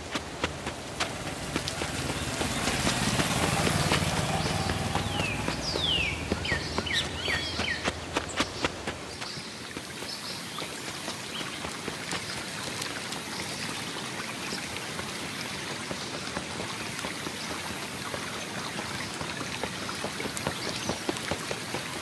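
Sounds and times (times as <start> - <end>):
stream running: 0.0 - 22.0.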